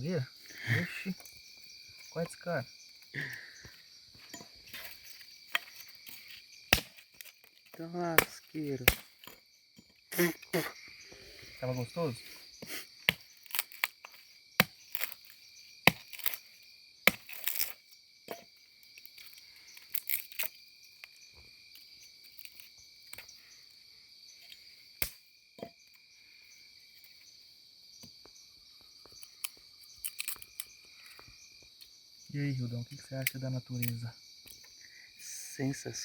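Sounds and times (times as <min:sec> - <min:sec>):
crickets chirping: 0:00.0 - 0:36.0.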